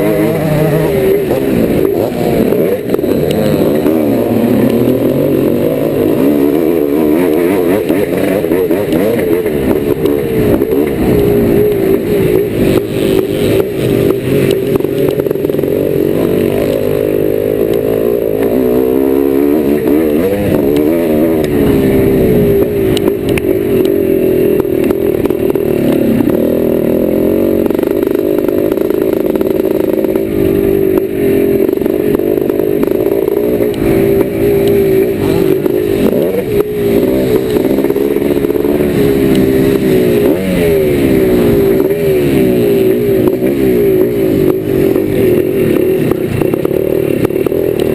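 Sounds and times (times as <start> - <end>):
two-stroke motorcycle engine revving: 0.0 - 47.9.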